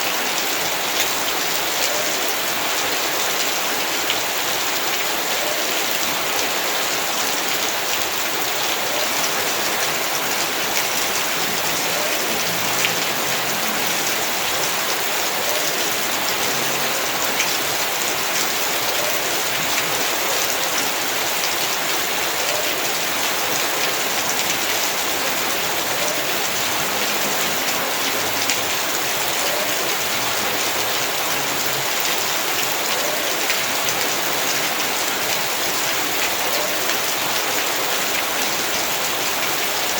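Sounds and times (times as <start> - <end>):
heavy rain hissing: 0.0 - 39.9
louder raindrop ticks: 7.4 - 39.6.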